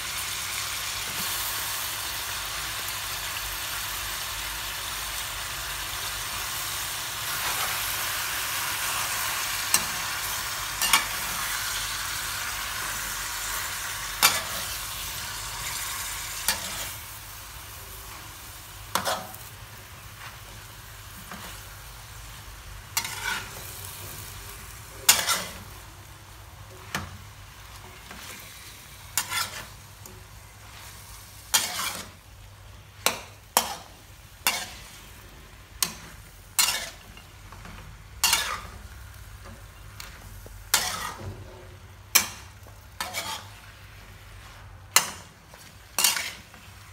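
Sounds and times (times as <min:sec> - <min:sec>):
greens and pork sizzling in a wok: 0:00.0 - 0:46.9.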